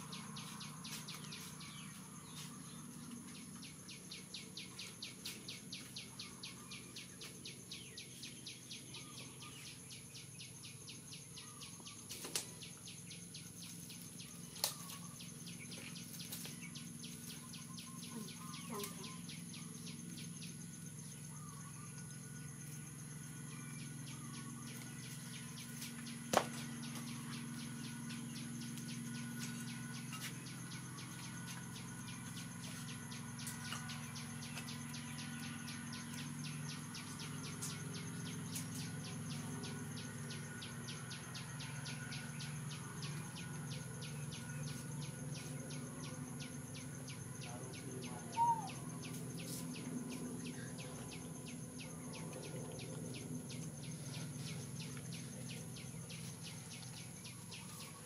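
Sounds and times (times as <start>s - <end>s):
faint bird chirps: 0.0s - 58.0s
insect trill: 0.0s - 58.0s.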